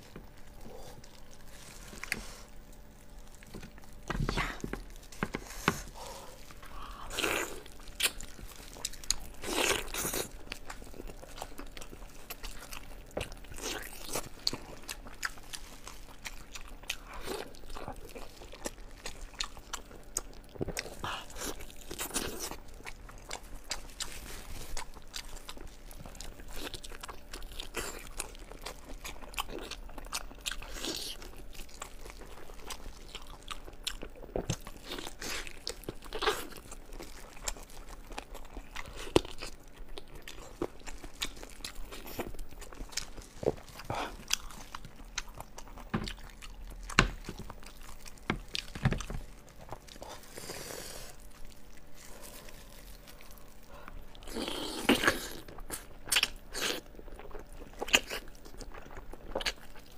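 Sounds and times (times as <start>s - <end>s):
biting and chewing crunches: 0.0s - 59.9s.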